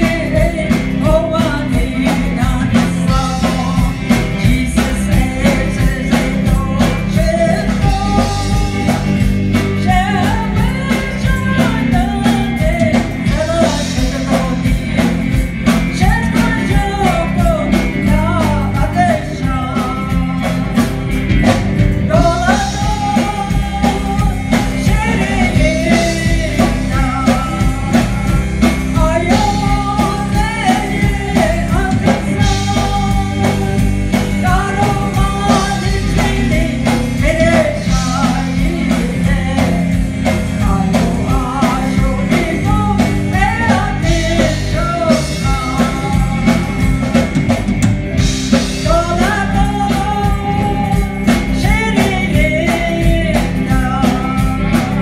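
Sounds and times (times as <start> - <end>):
gospel singing: 0.0 - 47.5
drum beat and bass: 0.0 - 55.0.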